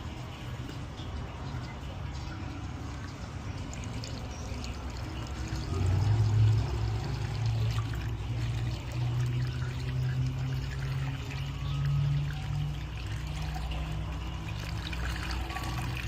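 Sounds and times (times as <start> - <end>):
oil pouring: 0.0 - 16.0.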